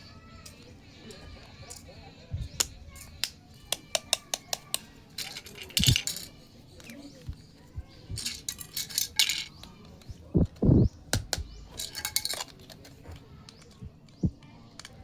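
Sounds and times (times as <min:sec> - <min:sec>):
plastic toy pieces clattering: 0:00.4 - 0:07.3, 0:08.2 - 0:10.1, 0:11.7 - 0:15.0.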